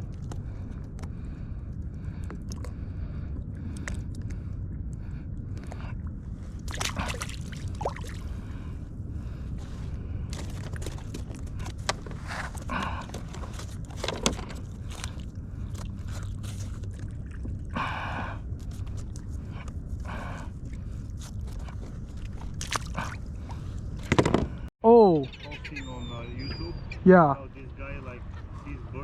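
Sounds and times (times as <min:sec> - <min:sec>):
water sloshing against hull: 0:00.0 - 0:24.7
steady low rumble: 0:00.0 - 0:29.0.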